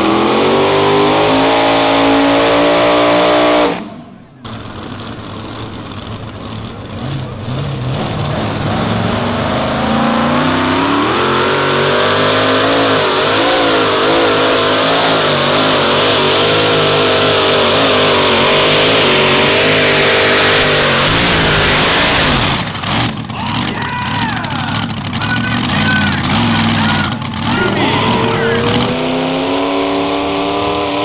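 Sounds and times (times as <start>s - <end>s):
tractor engine revving under load: 0.0s - 31.0s.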